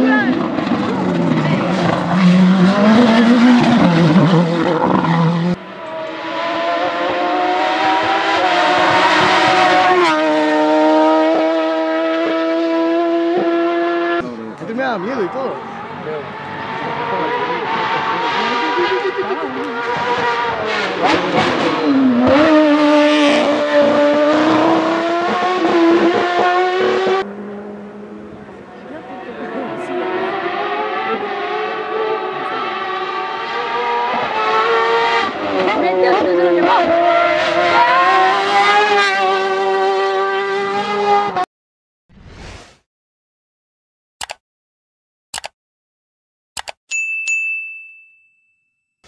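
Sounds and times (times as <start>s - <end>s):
racing car engine at full throttle: 0.0s - 41.4s
car engine approaching: 0.1s - 41.4s.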